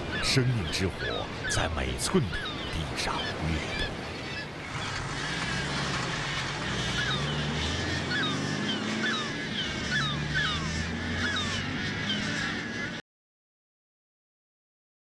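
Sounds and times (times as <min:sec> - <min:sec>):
flock of birds calling: 0:00.0 - 0:13.0.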